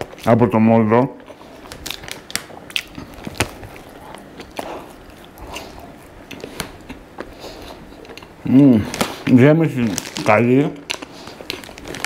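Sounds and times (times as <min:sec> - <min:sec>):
chewing pastry: 0:01.2 - 0:12.0.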